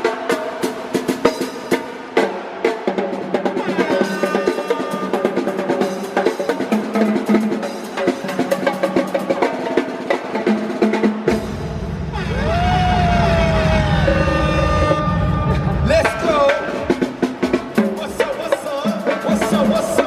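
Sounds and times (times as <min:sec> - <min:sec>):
backing music: 0:00.0 - 0:20.0
fast snare and drum hits: 0:00.0 - 0:20.0.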